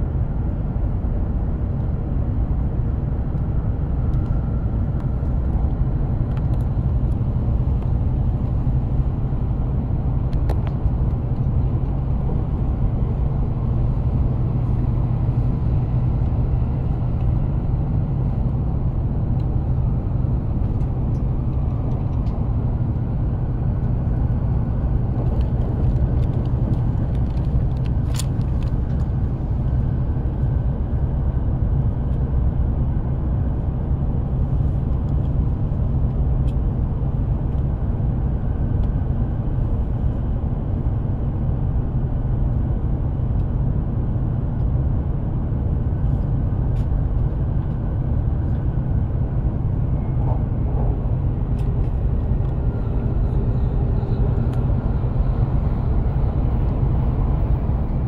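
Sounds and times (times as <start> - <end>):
train running noise rumble: 0.0 - 58.0.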